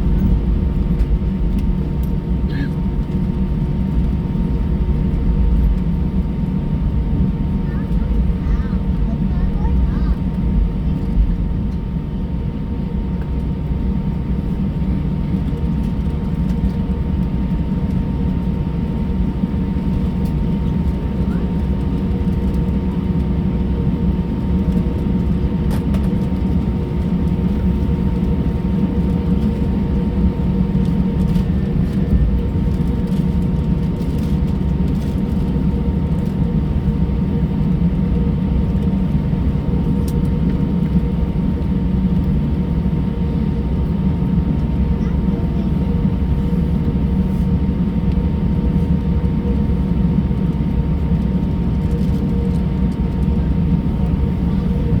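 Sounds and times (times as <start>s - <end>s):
aircraft engine rumble: 0.0s - 55.0s.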